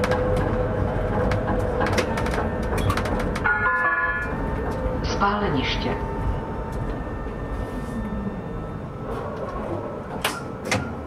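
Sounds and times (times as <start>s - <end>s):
tram rumble: 0.0s - 11.0s.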